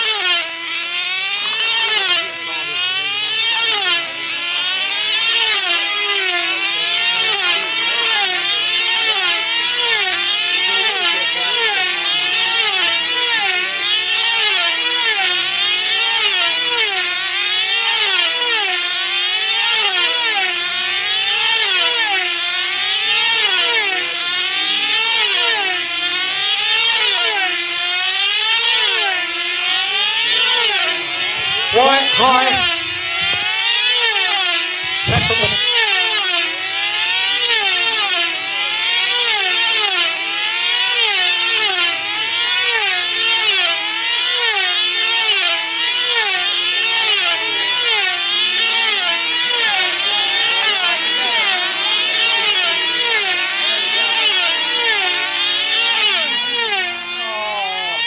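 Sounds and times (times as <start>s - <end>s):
model aircraft engines whining: 0.0s - 58.0s.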